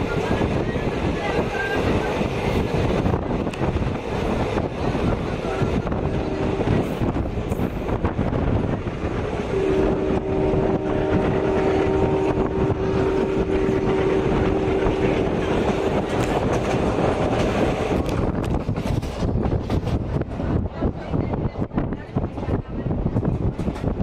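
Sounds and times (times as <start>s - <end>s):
train rumble and rattle: 0.0s - 24.0s.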